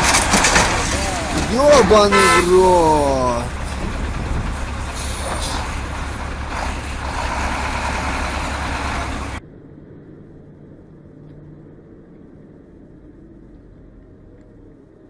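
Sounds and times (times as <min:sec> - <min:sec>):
car interior highway hum: 0:00.0 - 0:15.0
diesel truck engines rumbling: 0:00.0 - 0:15.0.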